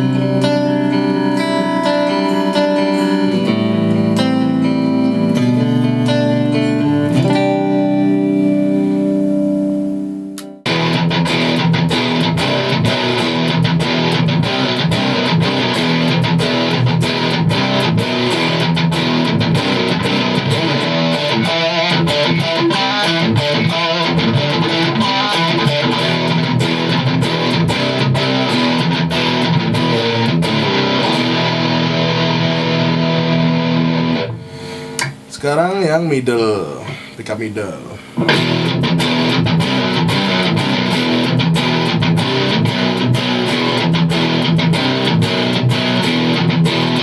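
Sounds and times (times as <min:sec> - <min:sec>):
electric guitar playing: 0:00.0 - 0:35.4, 0:38.1 - 0:47.0.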